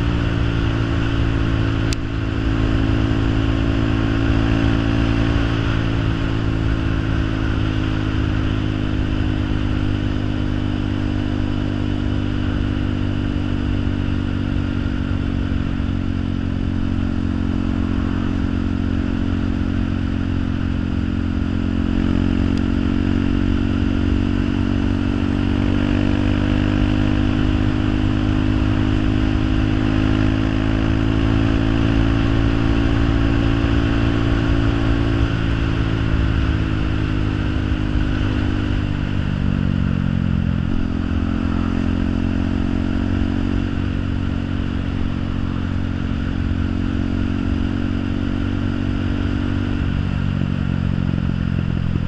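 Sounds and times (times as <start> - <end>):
engine humming steadily: 0.0 - 52.0.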